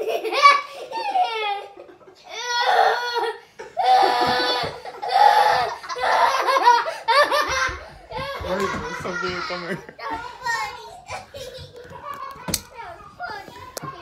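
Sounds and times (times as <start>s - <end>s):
child laughing: 0.0s - 12.5s.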